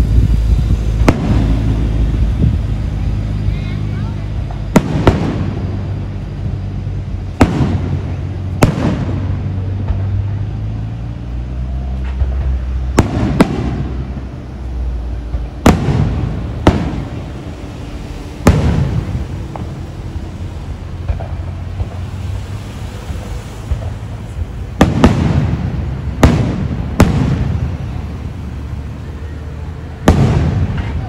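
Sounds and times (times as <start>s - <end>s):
fireworks bursting with echoing rumble: 0.0s - 31.0s.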